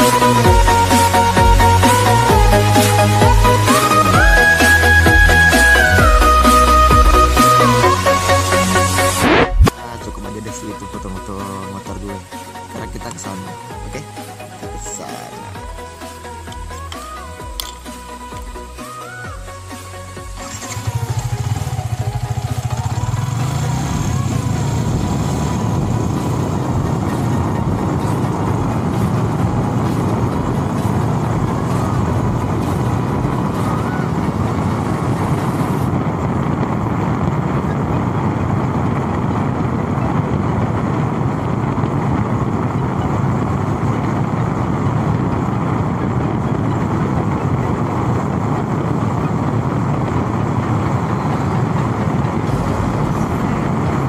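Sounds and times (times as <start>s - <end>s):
vehicle hum: 0.0s - 54.0s
wind and road noise: 0.0s - 54.0s.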